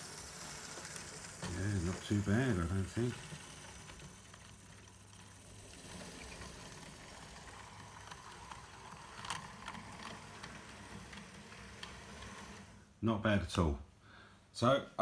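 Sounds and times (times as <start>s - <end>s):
model train motor hum: 0.0s - 12.9s.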